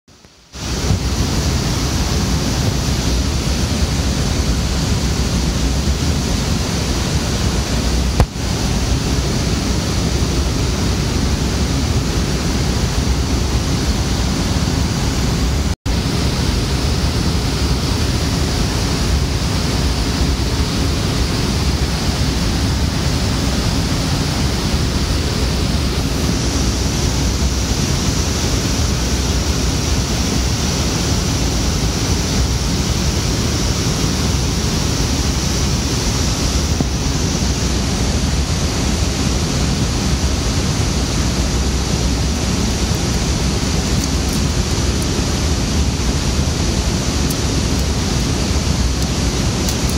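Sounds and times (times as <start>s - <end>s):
server fans rushing: 0.5s - 49.9s.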